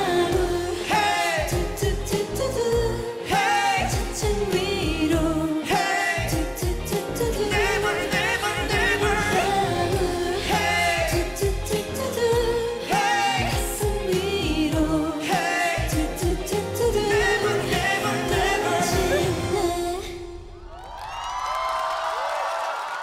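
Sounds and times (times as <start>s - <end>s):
pop song sung live over beat: 0.0s - 20.6s.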